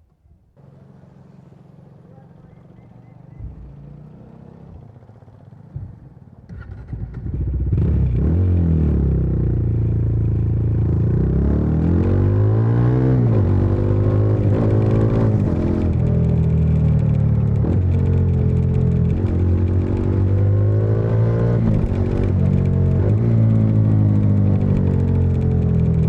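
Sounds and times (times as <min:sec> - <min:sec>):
motorcycle engine revving: 0:00.6 - 0:26.0.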